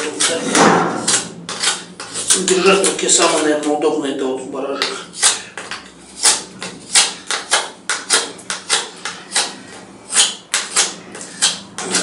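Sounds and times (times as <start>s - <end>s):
knife whittling wood: 0.0s - 3.5s, 4.8s - 12.0s.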